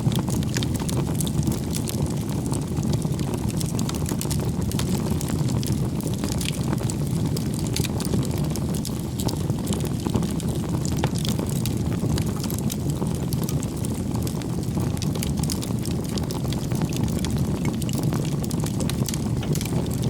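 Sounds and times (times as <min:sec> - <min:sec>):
campfire flames rumbling: 0:00.0 - 0:20.0
firewood crackling and popping: 0:00.0 - 0:20.0.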